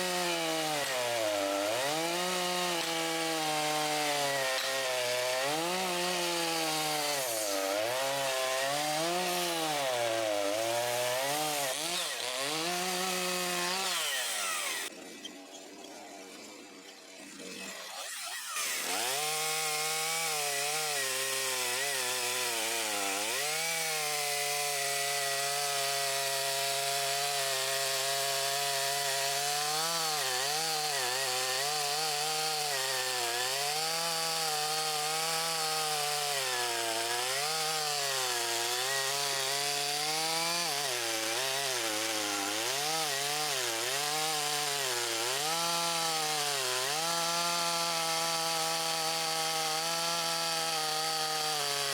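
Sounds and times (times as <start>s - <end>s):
chainsaw cutting wood: 0.0s - 15.6s, 17.3s - 51.9s.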